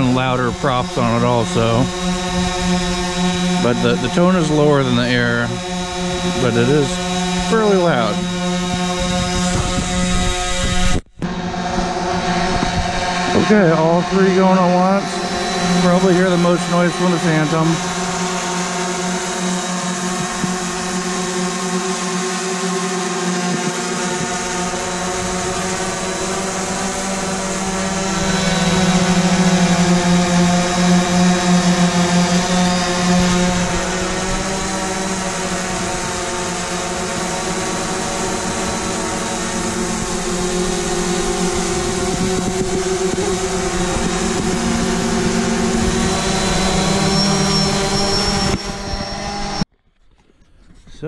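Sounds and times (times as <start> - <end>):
drone propellers humming: 0.0 - 50.7.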